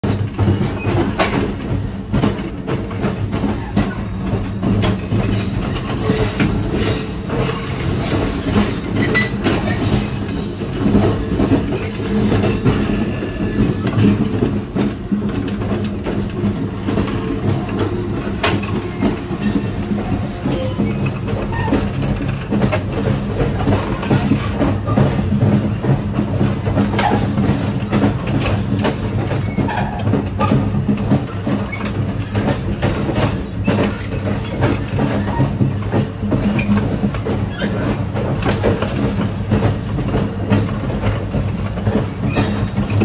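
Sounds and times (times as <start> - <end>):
sharp clanks and rattles: 0.0 - 43.0
train rumble: 0.0 - 43.0.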